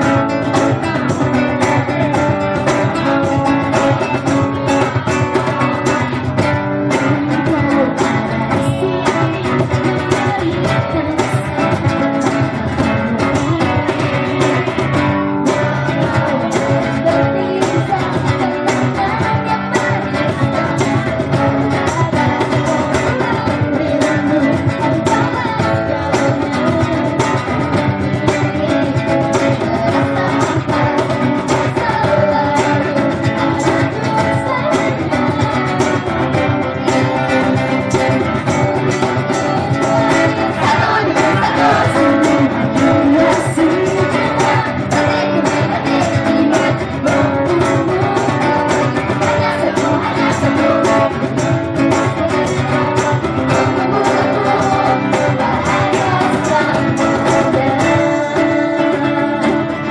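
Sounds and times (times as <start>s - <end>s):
strummed acoustic guitar: 0.0s - 59.9s
women singing pop song: 0.0s - 59.9s.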